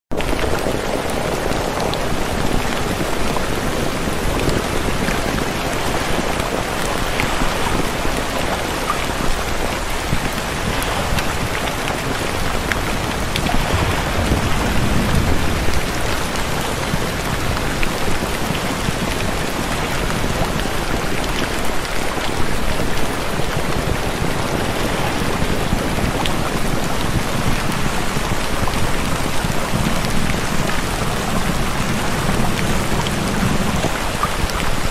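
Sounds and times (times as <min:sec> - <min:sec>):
raindrop patters: 0:00.1 - 0:34.9
steady rain: 0:00.1 - 0:34.9.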